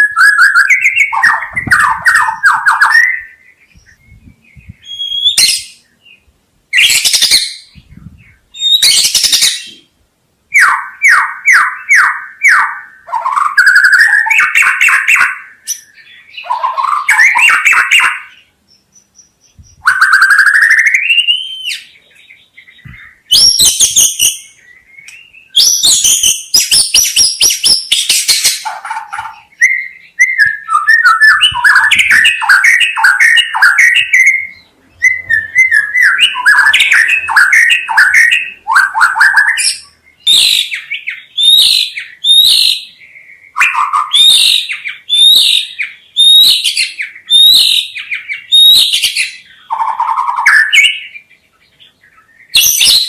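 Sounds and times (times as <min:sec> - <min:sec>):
songbird singing varied song: 0:00.0 - 0:53.0.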